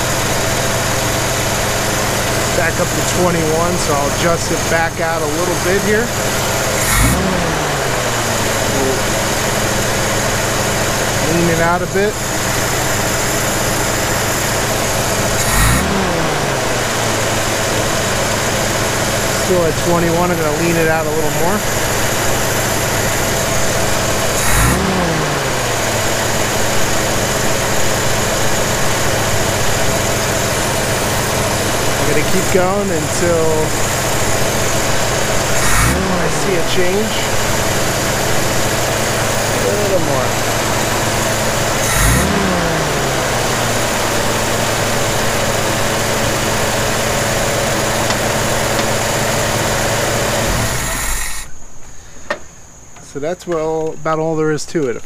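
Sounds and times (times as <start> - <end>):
car engine idling: 0.0 - 53.2.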